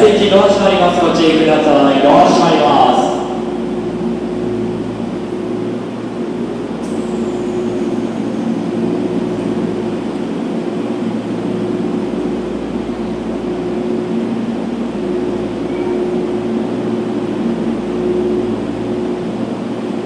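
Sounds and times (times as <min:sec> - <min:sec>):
train humming at platform: 0:00.0 - 0:20.0.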